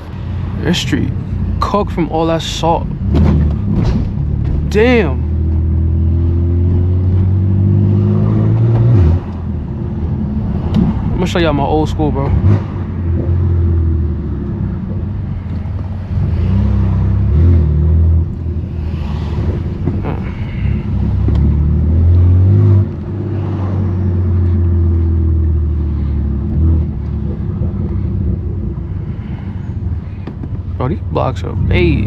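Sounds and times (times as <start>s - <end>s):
car exhaust drone: 0.0s - 32.0s.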